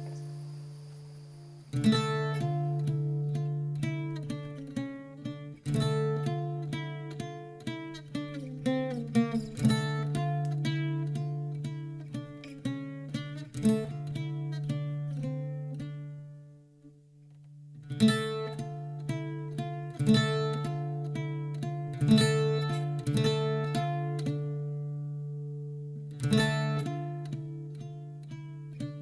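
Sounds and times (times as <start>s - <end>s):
acoustic guitar strumming: 0.0s - 17.0s, 17.6s - 29.0s.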